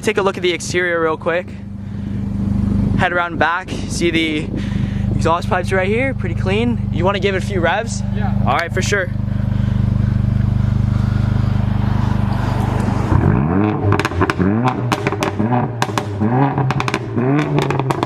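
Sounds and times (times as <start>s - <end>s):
car engine idling: 0.0s - 18.0s
exhaust pops and crackles: 0.0s - 18.0s
car engine revving: 0.4s - 18.0s.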